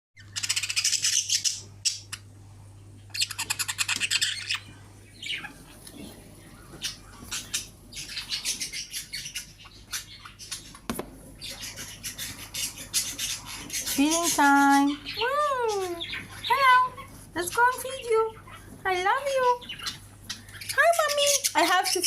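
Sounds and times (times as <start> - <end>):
budgies chirping: 0.2 - 2.3, 3.1 - 22.0
budgies squawking: 3.1 - 22.0.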